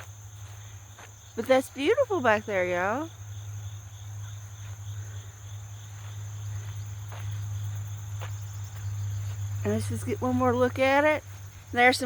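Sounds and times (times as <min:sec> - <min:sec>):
crickets trilling: 0:00.0 - 0:12.0
faint pulsing insect chirp: 0:00.0 - 0:12.0
steady low hum: 0:00.0 - 0:12.0.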